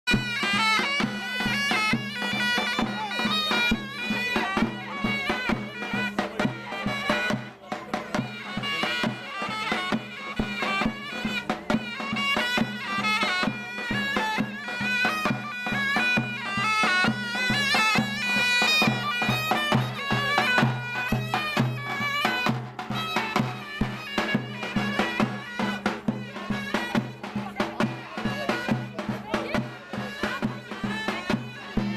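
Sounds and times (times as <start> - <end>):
shrill double-reed pipe melody: 0.1 - 31.9.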